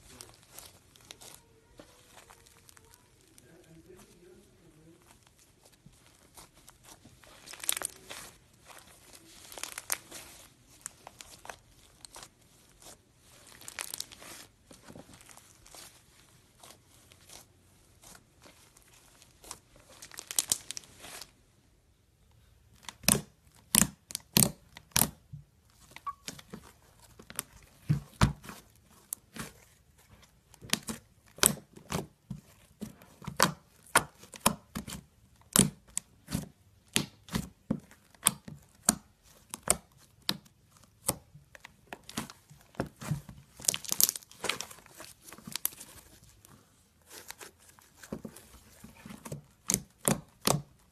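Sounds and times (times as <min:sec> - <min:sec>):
crackly slime kneading: 0:00.0 - 0:50.9.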